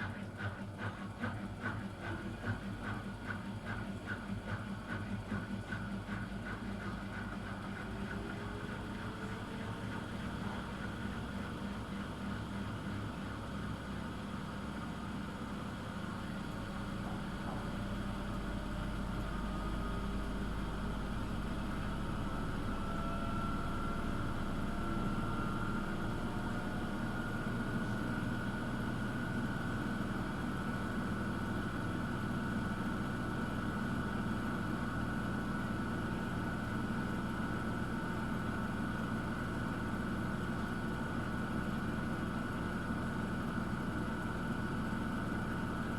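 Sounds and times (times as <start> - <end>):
washing machine humming: 0.0 - 45.9.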